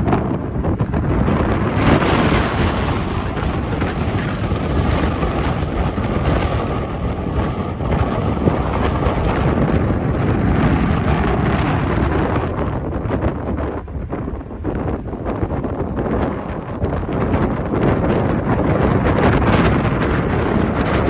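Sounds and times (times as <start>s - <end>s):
vehicle rumble on road: 0.0s - 21.0s
wind buffeting microphone: 0.0s - 21.0s.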